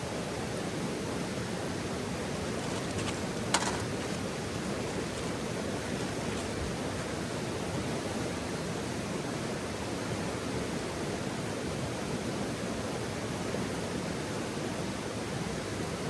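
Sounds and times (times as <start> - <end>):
campfire hissing: 0.0 - 16.0.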